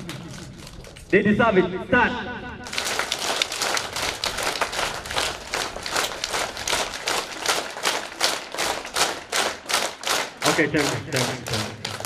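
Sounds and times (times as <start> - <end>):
crowd clapping in unison: 0.0 - 1.2, 2.6 - 12.0.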